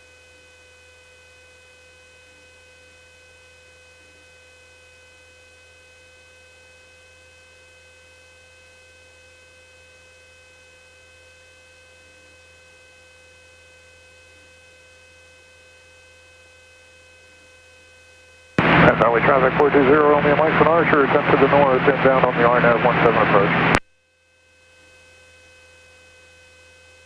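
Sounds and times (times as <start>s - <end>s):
electrical hum with high whine: 0.1s - 27.0s.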